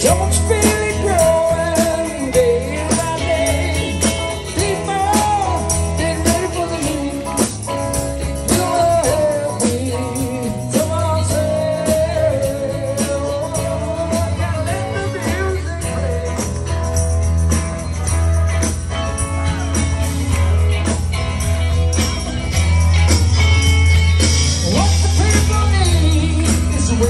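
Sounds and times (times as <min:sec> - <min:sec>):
bass: 0:00.0 - 0:27.0
drums: 0:00.0 - 0:27.0
electric guitars: 0:00.0 - 0:27.0
jingling percussion: 0:00.0 - 0:27.0.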